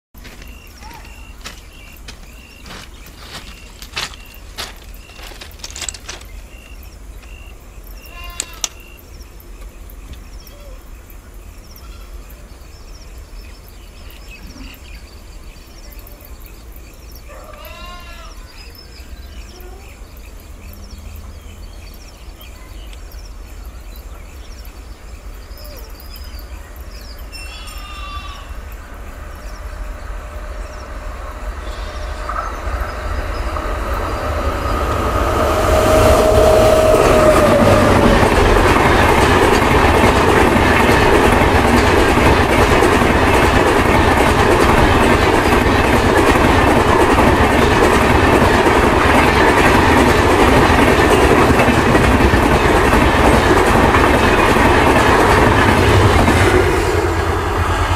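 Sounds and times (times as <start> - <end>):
train approaching with low rumble: 0.2 - 57.9.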